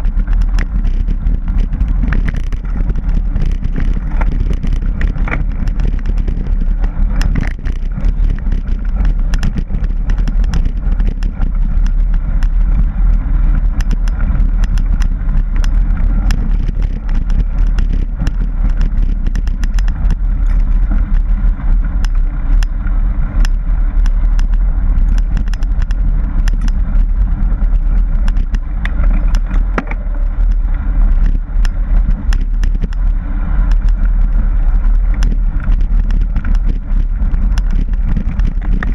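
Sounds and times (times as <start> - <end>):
bike rattles and clicks: 0.0 - 38.9
bike tyres rumbling on dirt: 0.0 - 38.9
wind on microphone: 0.0 - 38.9.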